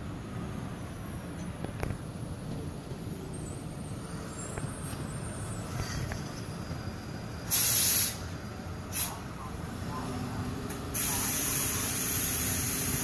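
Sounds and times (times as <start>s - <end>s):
low rumble of vehicles: 0.0s - 13.0s.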